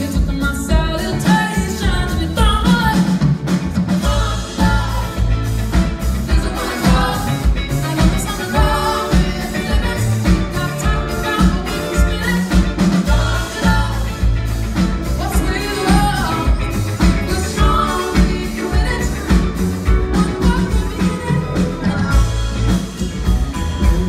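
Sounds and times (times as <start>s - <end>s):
woman singing lead vocal: 0.0s - 22.6s
acoustic guitar: 0.0s - 24.0s
drum kit beat: 0.0s - 24.0s
upright bass: 0.0s - 24.0s.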